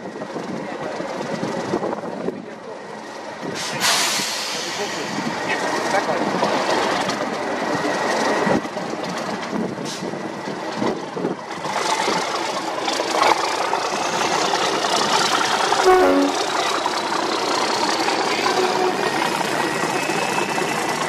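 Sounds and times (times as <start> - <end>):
diesel locomotive engine running: 0.0 - 21.0.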